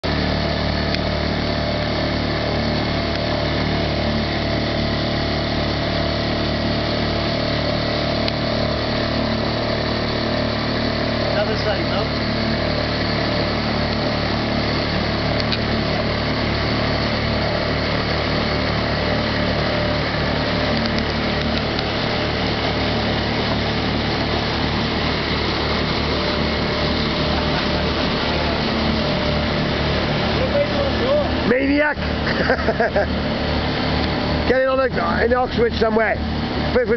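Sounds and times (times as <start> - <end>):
motorboat engine humming: 0.0 - 36.9.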